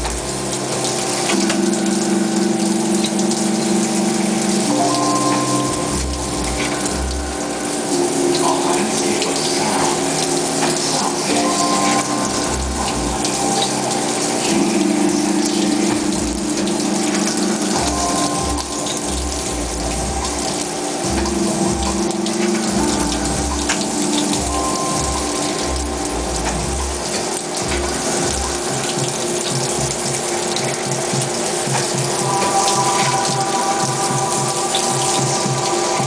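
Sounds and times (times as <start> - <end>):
coolant liquid hissing: 0.0 - 36.0.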